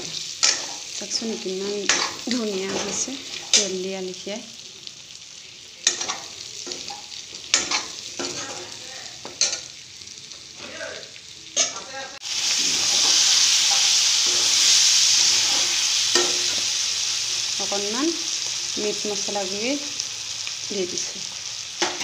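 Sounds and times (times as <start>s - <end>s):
meat sizzling in fat: 0.0s - 22.0s.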